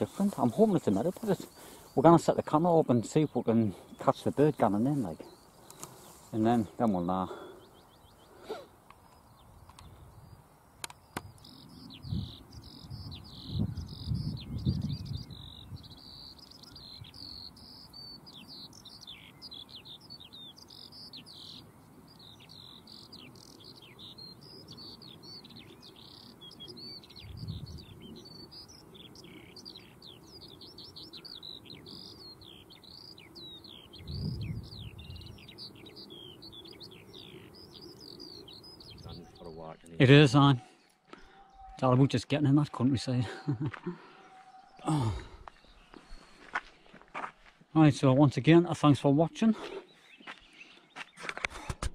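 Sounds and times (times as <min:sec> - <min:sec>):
skylark singing: 0:00.0 - 0:46.6.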